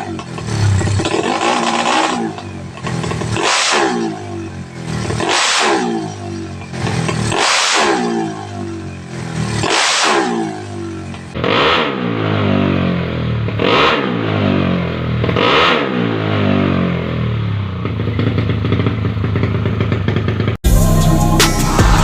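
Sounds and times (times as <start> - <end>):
scooter engine revving and idling: 0.0 - 22.0.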